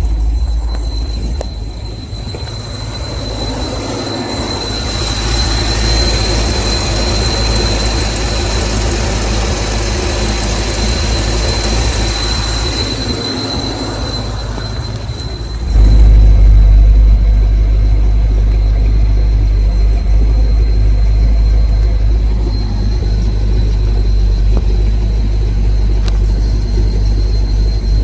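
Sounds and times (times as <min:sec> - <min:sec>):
high-pitched whistle: 0:00.0 - 0:28.0
vehicle engine running: 0:00.0 - 0:28.0.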